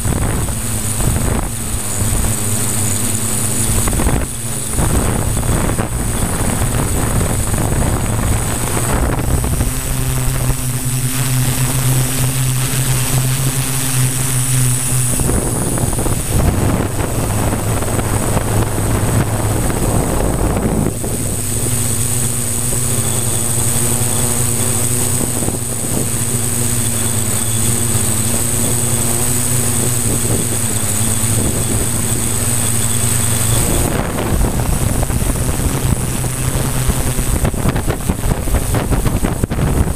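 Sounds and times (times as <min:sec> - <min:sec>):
drone motors and propellers humming: 0:00.0 - 0:39.9
high motor whine: 0:00.0 - 0:39.9.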